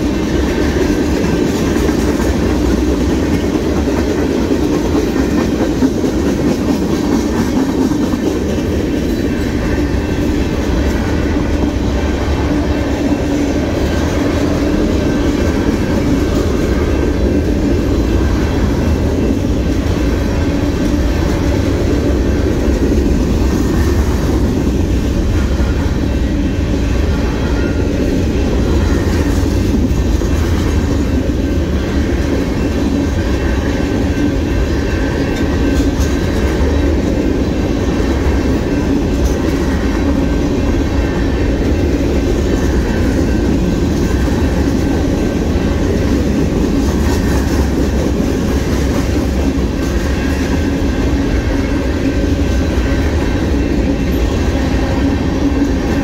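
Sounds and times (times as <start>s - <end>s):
clickety-clack over rail joints: 0.0s - 56.0s
freight train wheels rumbling: 0.0s - 56.0s.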